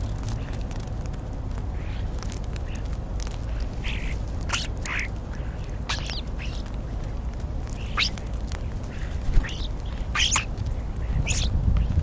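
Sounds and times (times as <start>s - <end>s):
steady low rumble: 0.0s - 12.0s
starlings calling: 1.7s - 12.0s.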